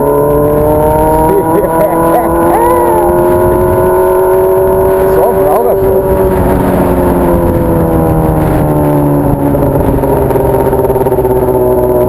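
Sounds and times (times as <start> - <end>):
motorcycle engine revving down: 0.0 - 12.0.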